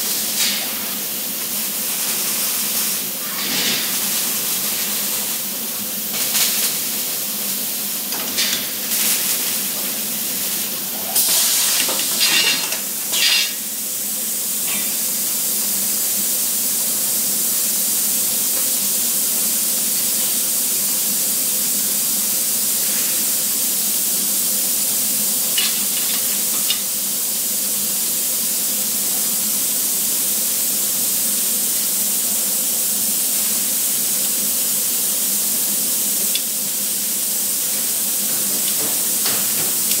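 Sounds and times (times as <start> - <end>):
arc welding sizzling: 0.0 - 40.0.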